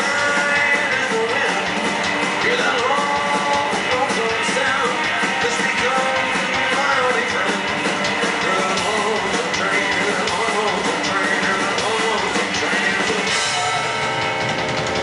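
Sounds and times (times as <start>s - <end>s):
live rockabilly band: 0.0s - 15.0s.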